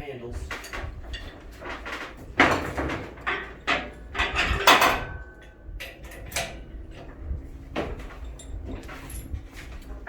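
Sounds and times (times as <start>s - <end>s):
metal tools clanking and rattling: 0.4s - 7.2s, 7.8s - 9.9s.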